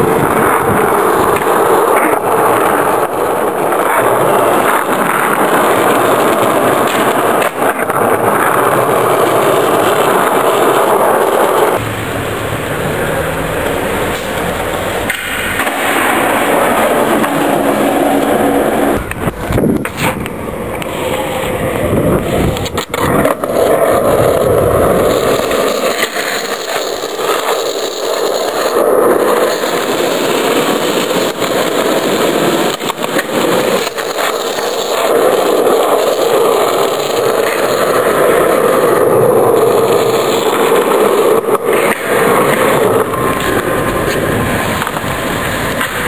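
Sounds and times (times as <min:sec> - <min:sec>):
skateboard clacking on ground: 0:00.0 - 0:11.9, 0:12.7 - 0:46.0
skateboard wheels rolling on asphalt: 0:00.0 - 0:46.0.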